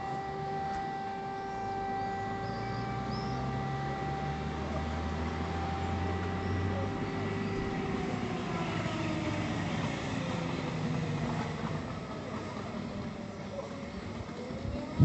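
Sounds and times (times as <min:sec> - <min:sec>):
passing vehicle engine hum: 0:00.0 - 0:15.0.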